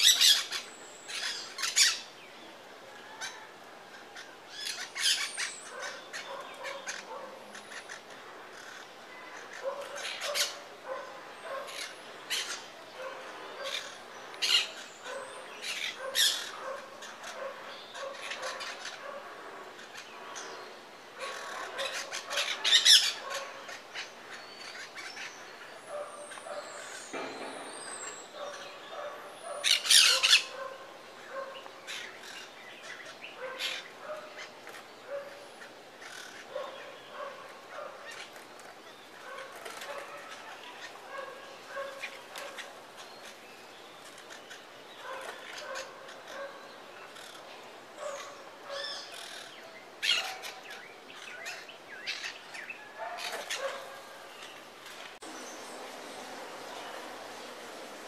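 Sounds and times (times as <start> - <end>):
parakeets calling: 0.0 - 2.2, 3.2 - 58.0.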